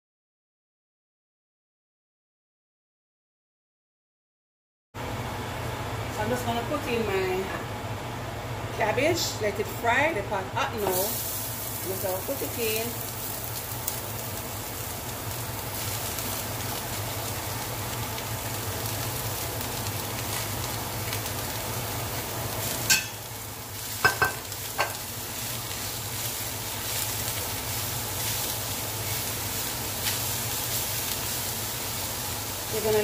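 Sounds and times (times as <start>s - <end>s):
vegetables sizzling in a pan: 6.2s - 33.0s.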